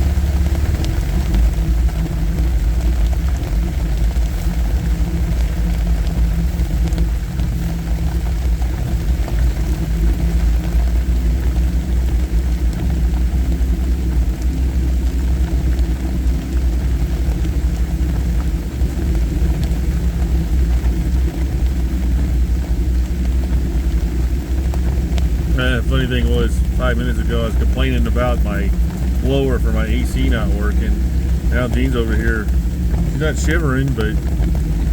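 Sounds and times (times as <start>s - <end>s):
vehicle engine and tyres droning: 0.0s - 34.9s.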